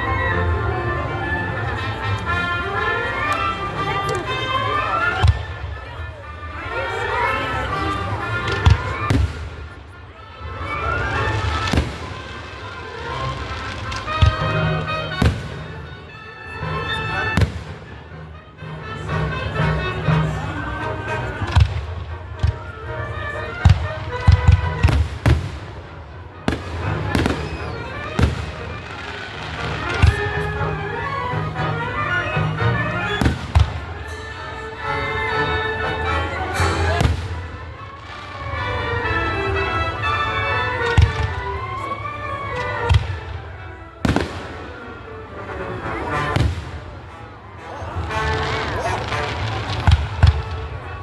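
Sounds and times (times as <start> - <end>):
music playing: 0.0 - 9.4, 10.4 - 51.0
fireworks banging: 3.3 - 18.3, 21.3 - 34.7, 36.4 - 51.0.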